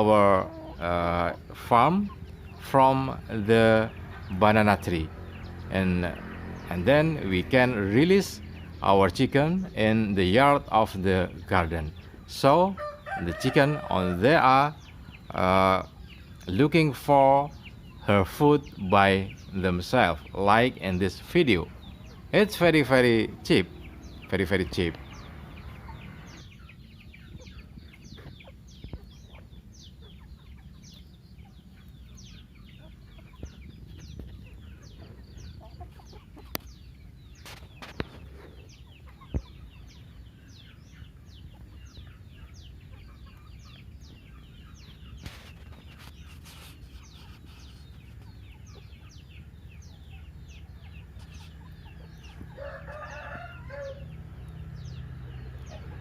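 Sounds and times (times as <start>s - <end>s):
chickens chirping: 0.0s - 56.0s.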